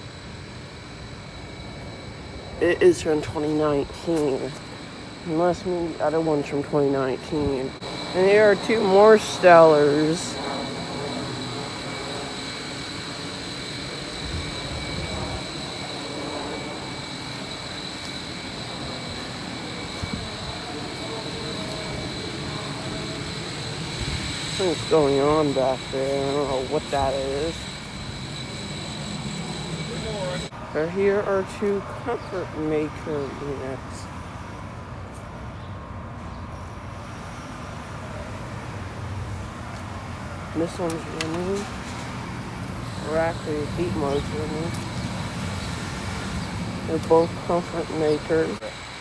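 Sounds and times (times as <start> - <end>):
high-pitched whine: 0.0 - 33.8, 40.6 - 49.0
heating unit humming: 0.0 - 34.4, 38.4 - 49.0
air conditioner fan and compressor: 0.0 - 49.0.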